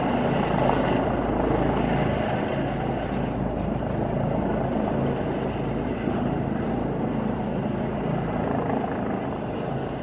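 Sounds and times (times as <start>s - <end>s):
helicopter rotor and engine rumble: 0.0s - 10.0s.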